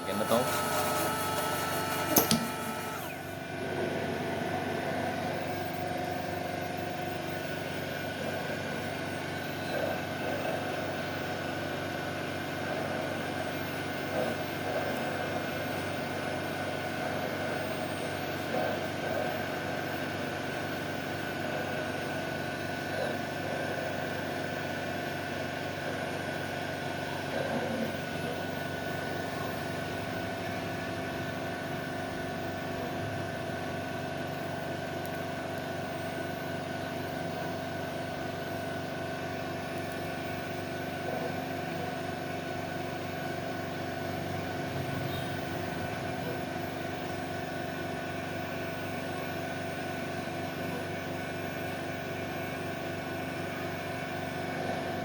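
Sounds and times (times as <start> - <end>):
steady whining tones: 0.0 - 49.6
machine humming: 0.0 - 55.0.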